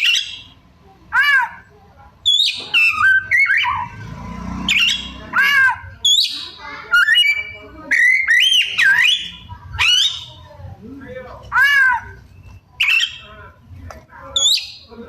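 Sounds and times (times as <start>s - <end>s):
bird singing varied phrases: 0.0s - 4.0s, 4.7s - 10.5s, 11.5s - 13.6s, 14.3s - 15.0s.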